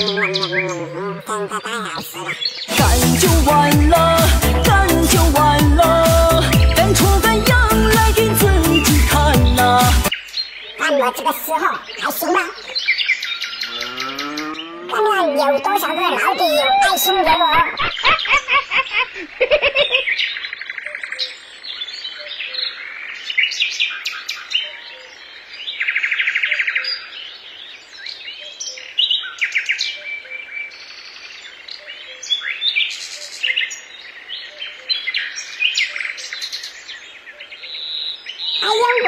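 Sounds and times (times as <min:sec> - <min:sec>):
birds chirping and singing: 0:00.0 - 0:39.0.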